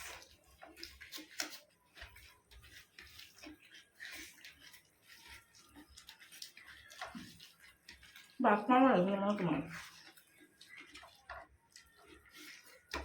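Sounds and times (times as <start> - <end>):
wet chewing sounds: 0.0 - 13.0.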